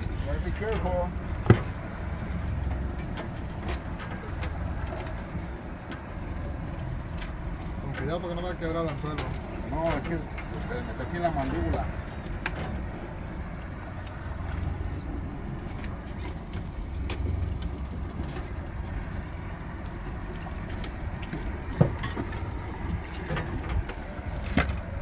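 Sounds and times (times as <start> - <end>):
outboard motor rumble: 0.0 - 25.0
water washing: 0.0 - 25.0
wind: 0.0 - 25.0.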